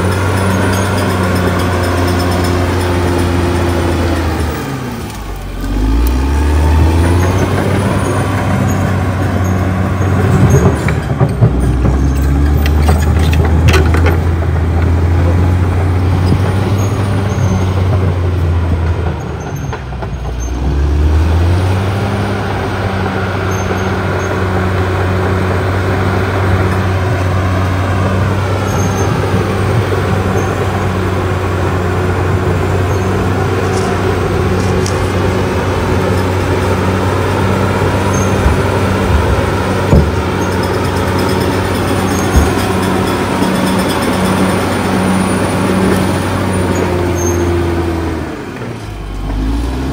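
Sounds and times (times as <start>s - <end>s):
steel tracks clattering: 0.0s - 5.4s, 6.9s - 20.8s, 21.4s - 49.4s
bulldozer diesel engine: 0.0s - 49.9s.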